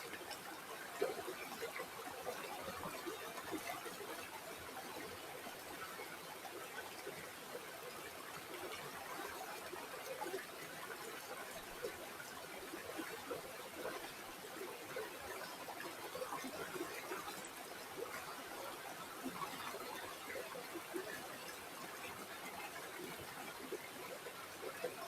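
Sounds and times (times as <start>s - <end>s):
stream trickling over stones: 0.0s - 25.0s.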